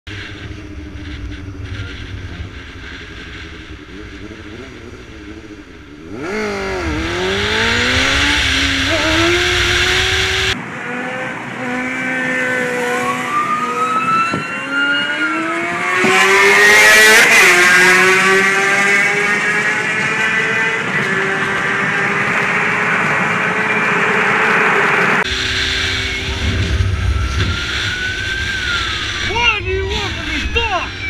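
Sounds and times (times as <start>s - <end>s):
motorcycle engine revving: 0.1s - 29.3s.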